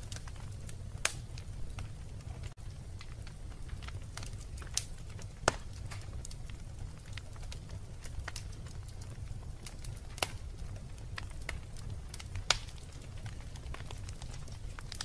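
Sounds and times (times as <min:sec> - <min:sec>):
fire burning with crackles: 0:00.0 - 0:15.0.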